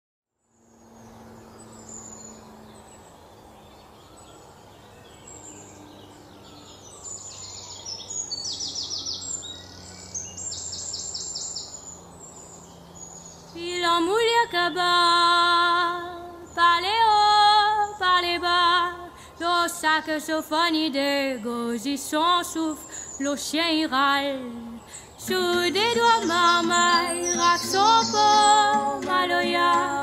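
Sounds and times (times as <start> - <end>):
birds calling: 0.6 - 19.8, 24.5 - 30.0.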